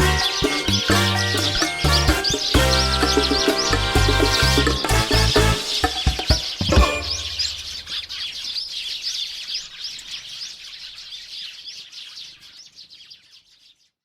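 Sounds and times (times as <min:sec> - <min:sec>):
wild birds chirping and twittering: 0:00.0 - 0:14.0.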